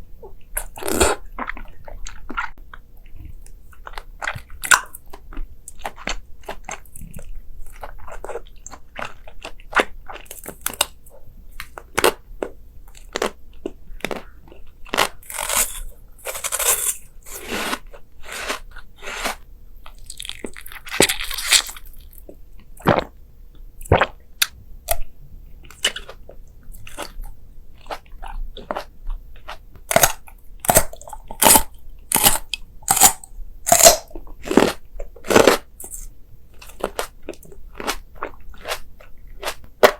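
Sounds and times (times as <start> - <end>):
crunchy food being chewed: 0.2 - 23.2, 23.8 - 39.9.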